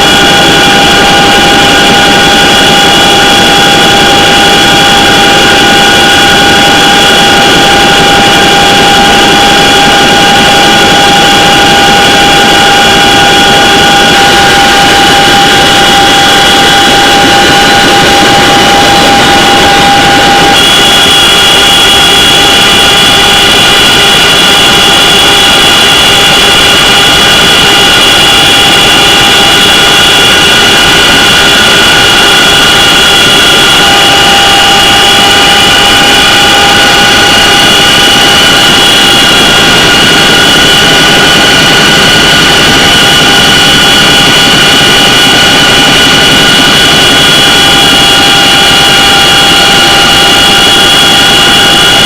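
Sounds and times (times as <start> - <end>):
helicopter turbine engines whining: 0.0 - 52.0.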